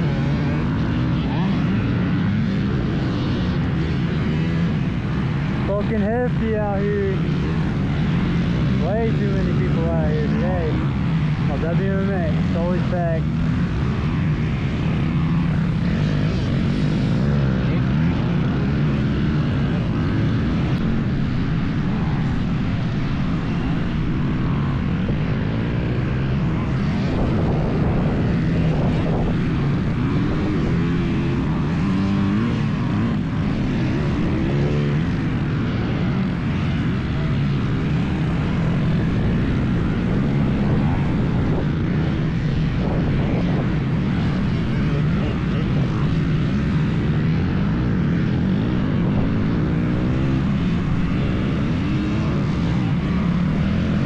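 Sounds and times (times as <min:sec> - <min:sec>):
two-stroke dirt bike engine revving: 0:05.4 - 0:54.0.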